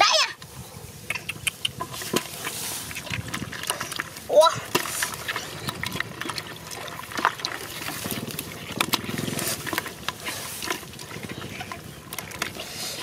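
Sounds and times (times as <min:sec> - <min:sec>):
hands squelching in wet mud: 0:01.0 - 0:13.0
small wet splashes: 0:01.8 - 0:13.0.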